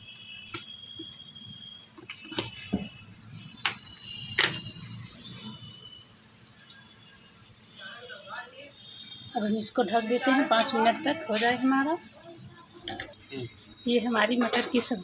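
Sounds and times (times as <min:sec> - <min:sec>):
faint high steady tone: 0:00.0 - 0:15.0.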